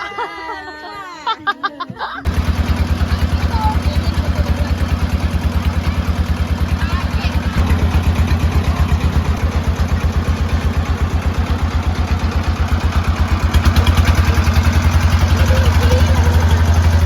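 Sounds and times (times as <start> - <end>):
boat engine thumping: 1.8 - 17.0.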